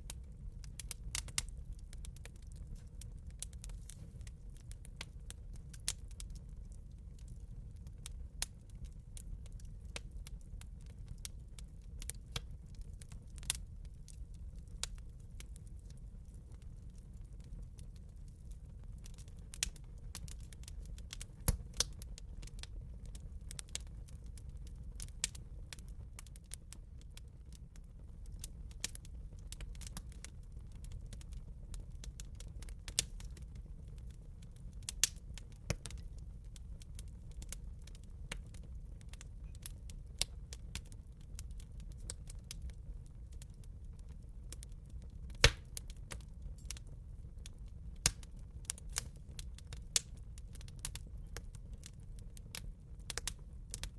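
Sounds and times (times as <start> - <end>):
fire crackling and popping: 0.0 - 53.9
fire flames rumbling: 0.0 - 53.9.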